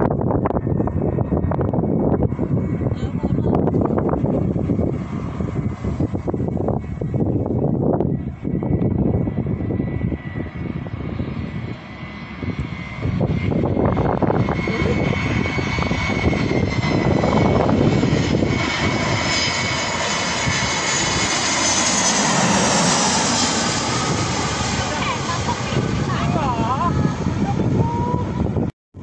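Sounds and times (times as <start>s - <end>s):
high fan whine: 0.0s - 28.7s
jet airliner engine roar: 0.0s - 29.0s
wind rumble on microphone: 0.0s - 29.0s.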